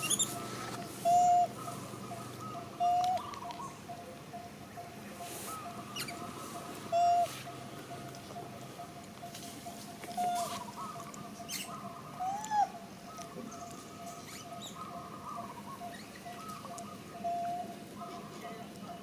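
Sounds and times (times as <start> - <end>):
squeaky animal calls: 0.0 - 3.8, 5.4 - 18.5
steady high hum: 0.0 - 19.0.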